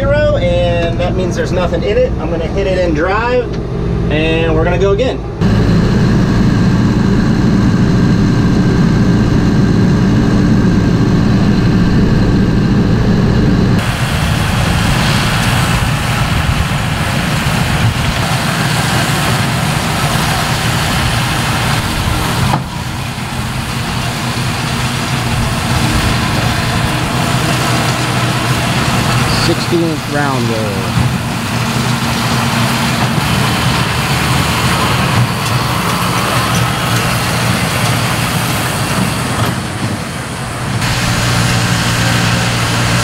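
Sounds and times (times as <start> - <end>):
tractor diesel engine under load: 0.0 - 43.0.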